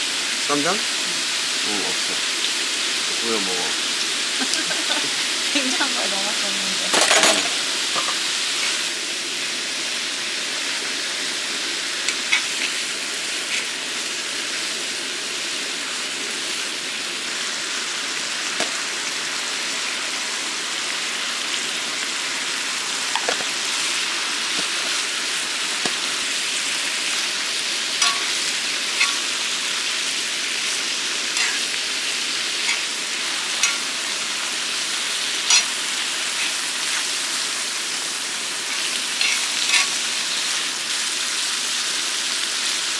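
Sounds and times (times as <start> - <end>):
food sizzling in a frying pan: 0.0 - 42.9.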